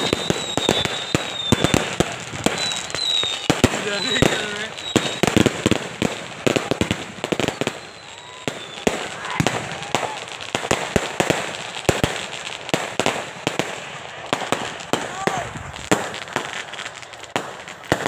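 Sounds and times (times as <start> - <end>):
firecrackers banging: 0.0 - 18.0.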